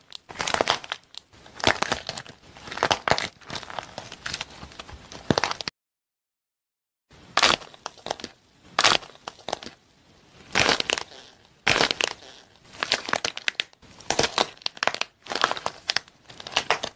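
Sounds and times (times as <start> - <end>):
dry cake cracking and crunching: 0.0 - 5.7, 7.3 - 9.8, 10.5 - 16.9.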